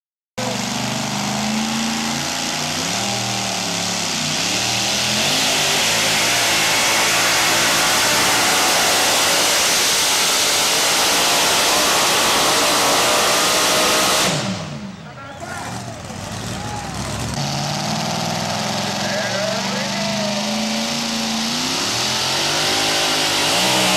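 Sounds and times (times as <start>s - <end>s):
truck engine at full throttle: 0.4s - 23.9s.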